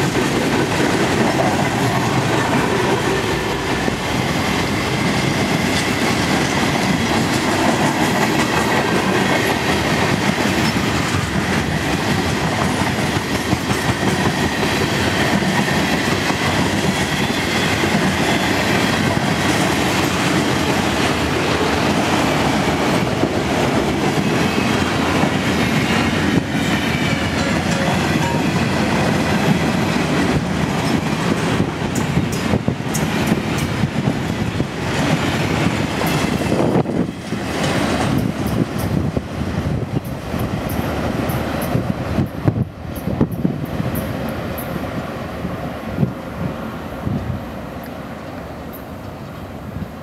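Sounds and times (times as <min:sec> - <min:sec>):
clickety-clack over rail joints: 0:00.0 - 0:45.0, 0:45.8 - 0:50.0
freight train wheels rumbling on rails: 0:00.0 - 0:50.0.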